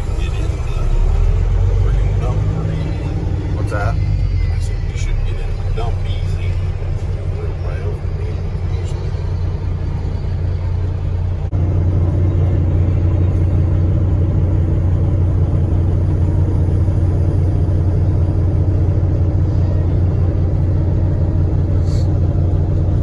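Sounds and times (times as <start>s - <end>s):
heavy vehicle engine rumbling: 0.0s - 23.0s.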